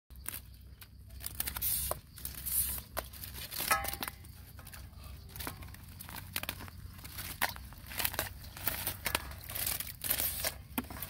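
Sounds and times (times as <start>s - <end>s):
rustling and crinkling handling: 0.1s - 11.0s.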